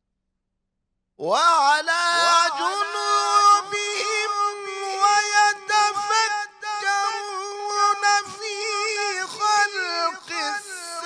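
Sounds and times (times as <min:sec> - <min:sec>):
man chanting recitation: 0:01.2 - 0:11.0.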